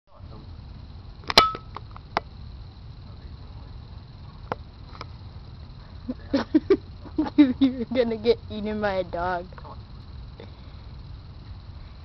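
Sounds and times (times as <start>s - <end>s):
low steady rumble: 0.1s - 12.0s.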